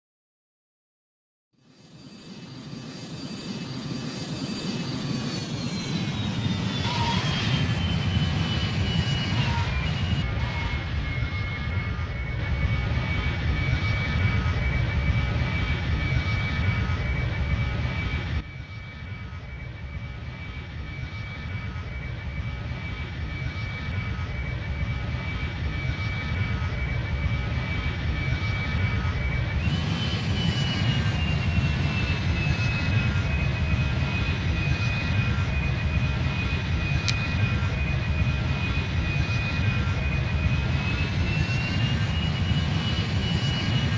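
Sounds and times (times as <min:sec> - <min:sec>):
high engine whine: 0:01.6 - 0:43.9
jet engine rush: 0:01.9 - 0:43.9.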